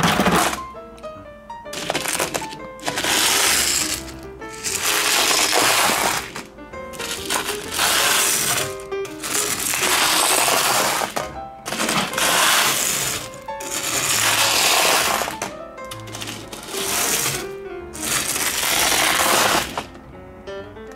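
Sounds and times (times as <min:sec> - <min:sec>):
background music with plucked notes: 0:00.0 - 0:20.9
stones scraping and grinding: 0:01.8 - 0:06.4, 0:07.0 - 0:17.4, 0:18.0 - 0:19.8.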